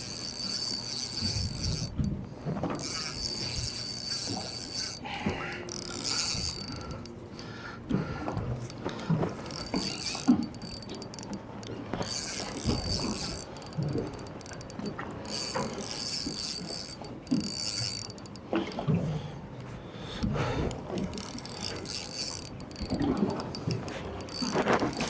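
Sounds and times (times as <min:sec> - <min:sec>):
fishing reel whirring and clicking: 0:00.0 - 0:25.0.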